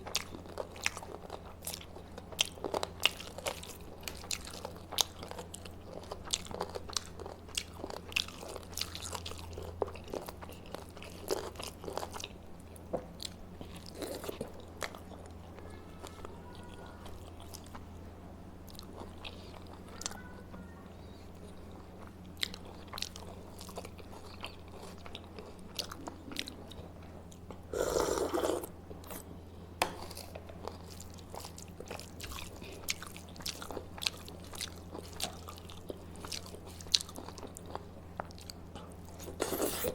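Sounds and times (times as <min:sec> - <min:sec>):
person chewing crunchy food: 0:00.0 - 0:17.9, 0:18.7 - 0:20.3, 0:21.0 - 0:39.9
steady low hum: 0:00.0 - 0:39.9.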